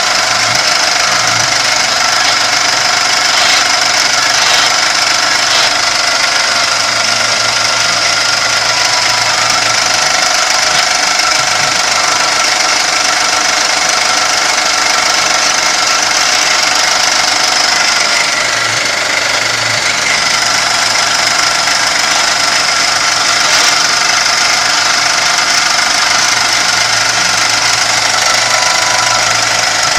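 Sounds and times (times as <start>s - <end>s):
machine running: 0.0s - 29.9s.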